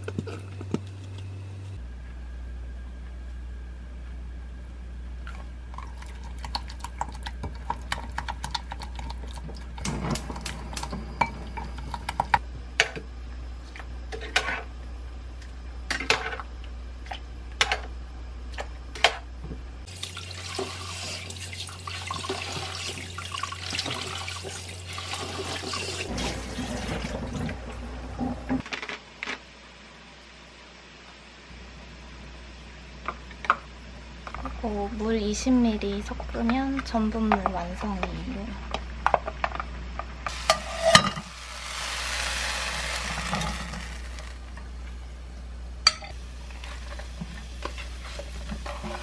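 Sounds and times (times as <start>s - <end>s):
steady low hum: 0.0s - 19.9s, 29.6s - 49.0s.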